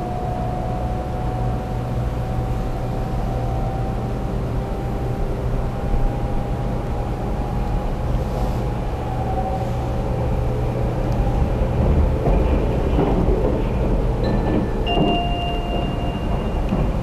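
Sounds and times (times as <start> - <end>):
train cabin rumble: 0.0 - 17.0.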